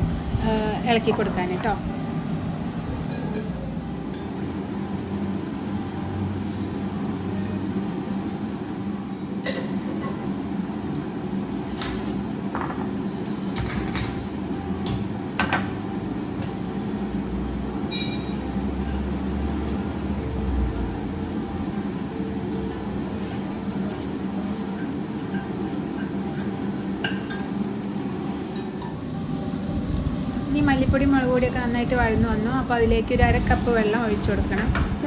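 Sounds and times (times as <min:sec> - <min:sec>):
low kitchen hum: 0:00.0 - 0:35.0.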